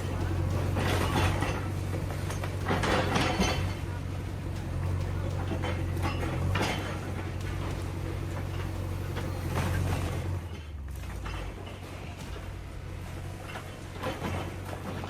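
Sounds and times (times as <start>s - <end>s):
debris clattering and crunching: 0.0s - 15.0s
excavator diesel engine running: 0.0s - 15.0s.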